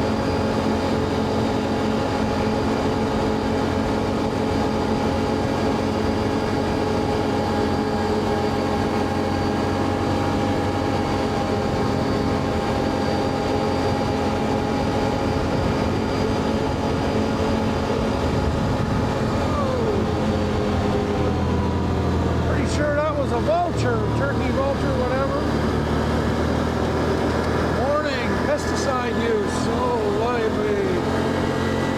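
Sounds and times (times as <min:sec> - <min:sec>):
atv engine droning: 0:00.0 - 0:31.9.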